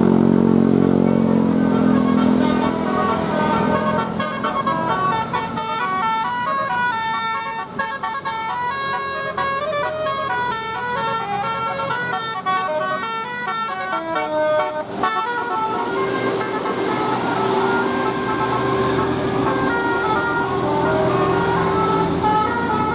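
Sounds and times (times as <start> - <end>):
multi-tone musical bus horn: 0.0 - 22.9.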